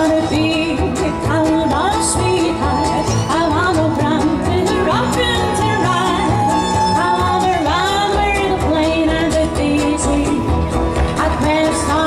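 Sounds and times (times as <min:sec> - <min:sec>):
acoustic guitar: 0:00.0 - 0:12.0
bowed fiddle: 0:00.0 - 0:12.0
upright double bass: 0:00.0 - 0:12.0
woman singing: 0:00.0 - 0:12.0.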